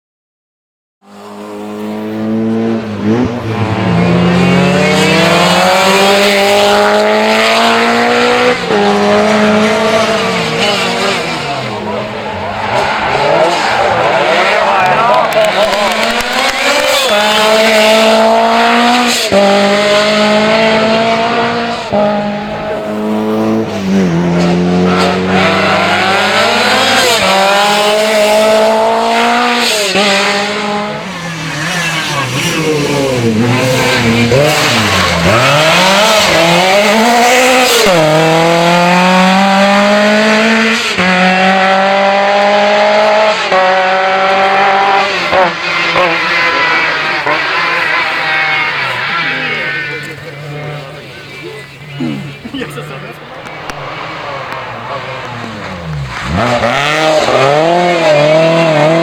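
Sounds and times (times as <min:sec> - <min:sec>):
rally car engine revving: 0:01.0 - 0:59.0.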